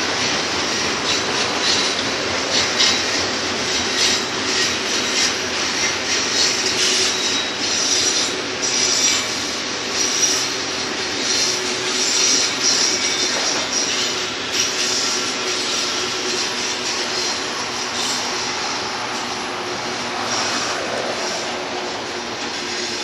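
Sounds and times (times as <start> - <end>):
freight train wheels rumbling: 0.0 - 23.0
wheel flanges squealing: 0.0 - 23.0.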